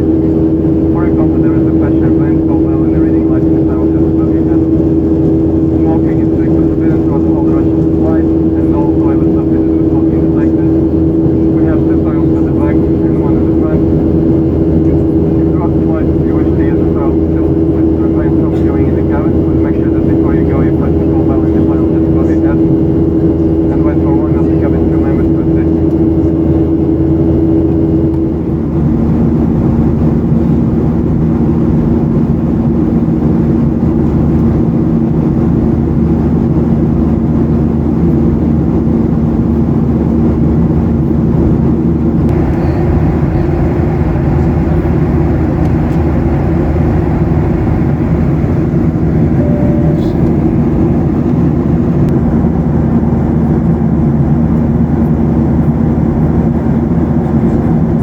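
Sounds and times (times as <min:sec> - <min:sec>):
airplane cabin engine roar: 0:00.0 - 0:58.0.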